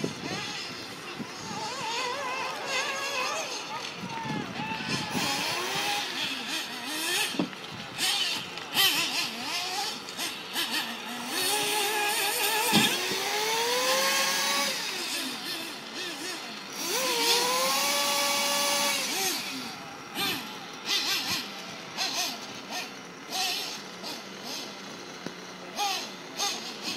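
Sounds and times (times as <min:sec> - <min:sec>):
model car motors whining: 0:00.0 - 0:26.9.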